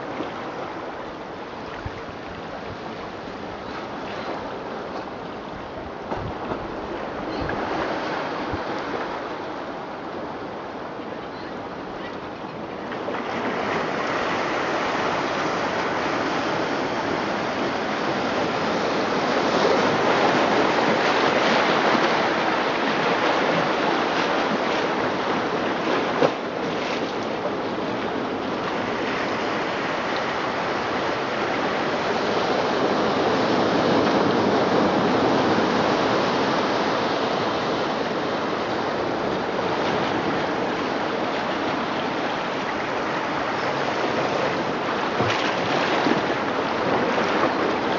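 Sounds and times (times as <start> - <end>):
ocean surf through loudspeakers: 0.0 - 47.9.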